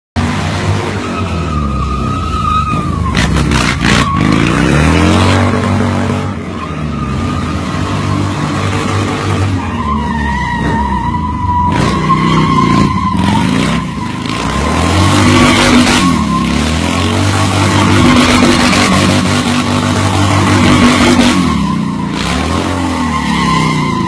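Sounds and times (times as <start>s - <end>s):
motorcycle engine at rev limiter: 0.2s - 24.0s
tire squealing: 0.2s - 24.0s.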